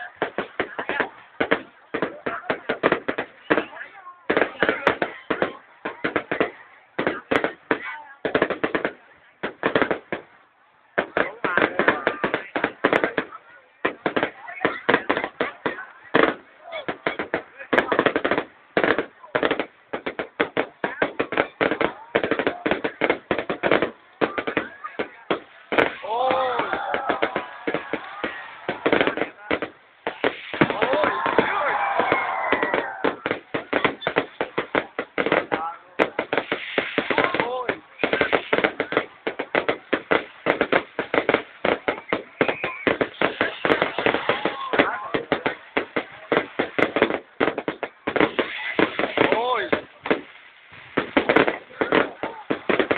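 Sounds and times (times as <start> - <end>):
fireworks cracking and banging: 0.0 - 52.9.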